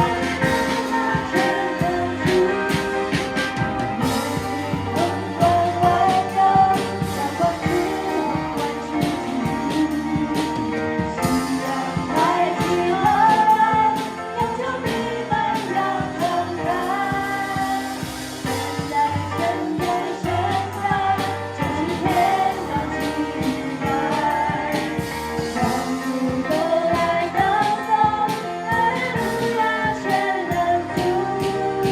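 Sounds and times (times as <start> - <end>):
drums keeping a steady beat: 0.0 - 31.9
voices singing worship music: 0.0 - 31.9.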